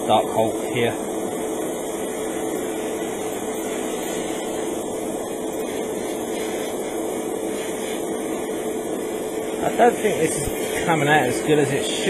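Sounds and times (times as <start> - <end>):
airbrush motor humming: 0.0 - 12.0
air rushing from airbrush: 1.0 - 12.0.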